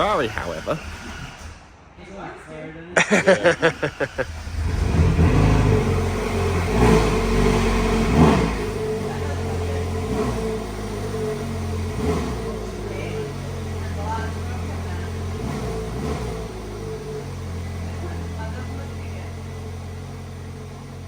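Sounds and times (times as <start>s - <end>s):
car engine starting and revving: 0.0s - 1.9s, 3.4s - 21.0s.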